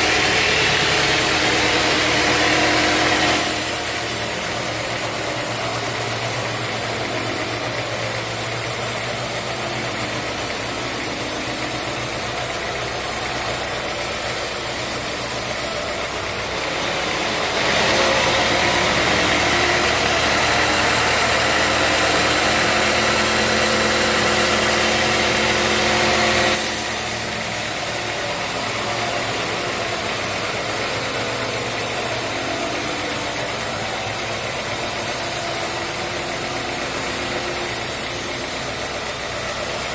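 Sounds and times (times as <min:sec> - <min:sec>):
band saw machinery drone: 0:00.0 - 0:39.9
high hissing saw: 0:00.0 - 0:39.9.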